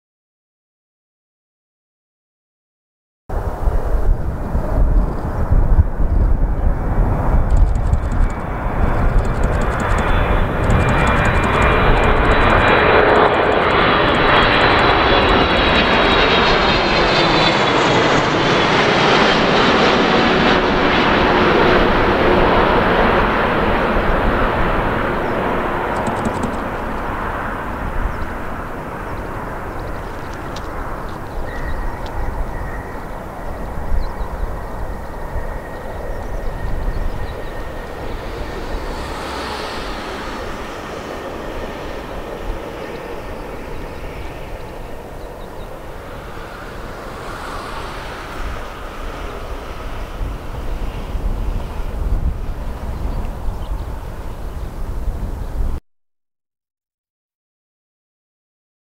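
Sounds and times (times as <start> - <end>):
jet airliner passing: 3.3 - 55.8
jet engine whine: 3.3 - 55.8.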